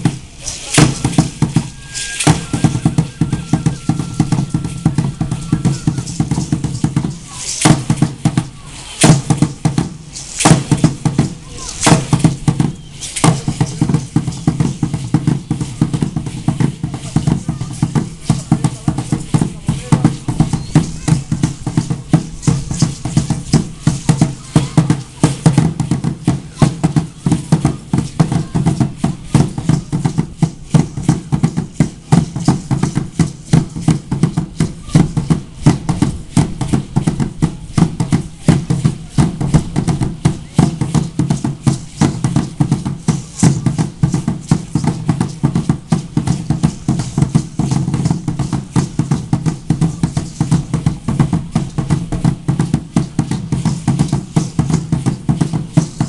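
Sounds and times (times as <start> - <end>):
dance drum beaten fast: 0.0 - 56.0.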